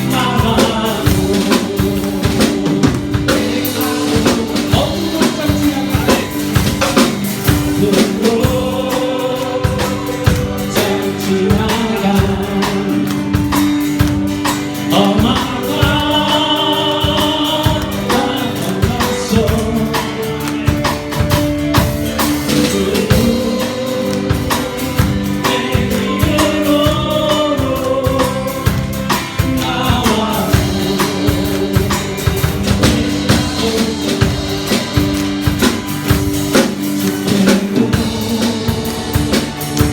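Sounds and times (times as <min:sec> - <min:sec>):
people singing a melody: 0:00.0 - 0:13.8, 0:14.6 - 0:39.9
drum kit beat: 0:00.0 - 0:39.9.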